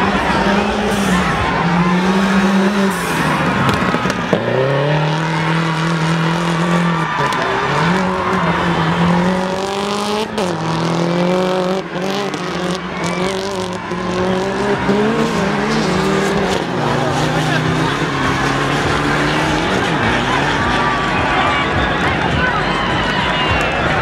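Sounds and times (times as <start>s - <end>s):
rally car engine at high revs: 0.0s - 22.4s.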